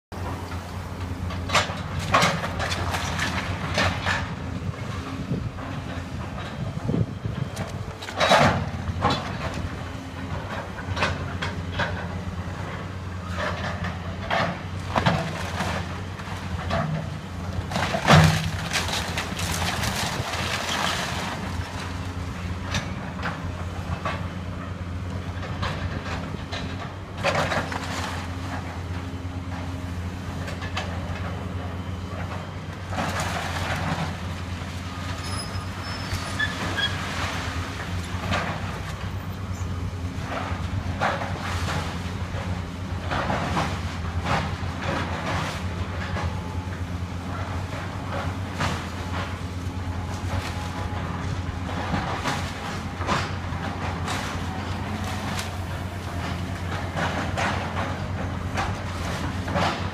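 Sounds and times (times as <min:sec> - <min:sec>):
excavator diesel engine running: 0:00.1 - 0:59.9.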